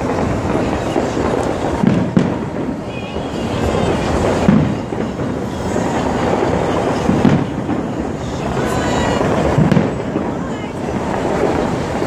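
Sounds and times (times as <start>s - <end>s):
fireworks bursts and crackle: 0.0s - 12.0s
heavy firework booms: 0.0s - 12.0s.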